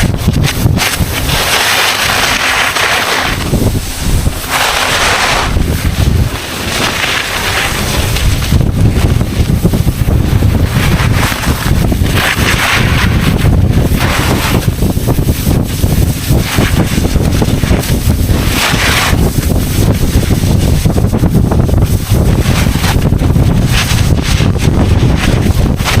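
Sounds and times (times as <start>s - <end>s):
ski edges swishing through snow: 0.0s - 26.0s
wind buffeting microphone: 0.0s - 26.0s.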